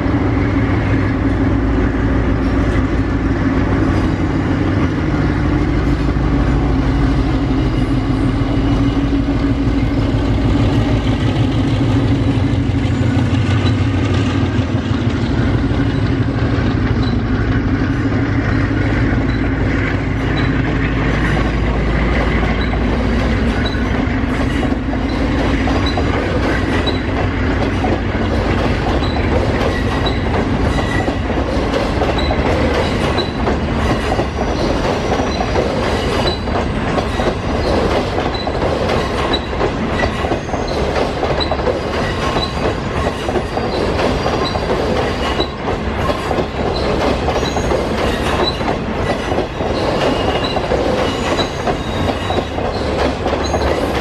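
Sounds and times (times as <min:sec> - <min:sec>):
train rumble: 0:00.0 - 0:54.0
train wheels clicking over rail joints: 0:00.0 - 0:54.0.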